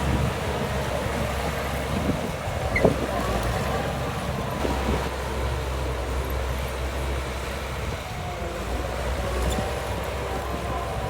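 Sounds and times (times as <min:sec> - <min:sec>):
diesel engine of heavy machinery: 0:00.0 - 0:11.0.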